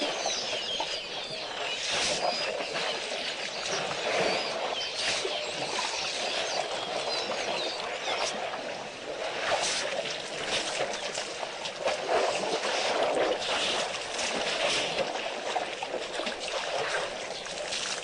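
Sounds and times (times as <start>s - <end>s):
shallow water splashing: 0.0s - 18.0s.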